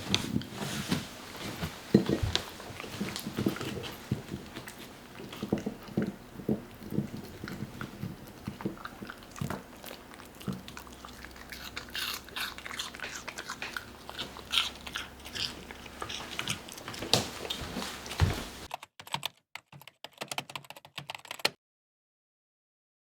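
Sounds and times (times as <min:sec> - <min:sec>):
chewing and crunching: 0:00.0 - 0:18.7.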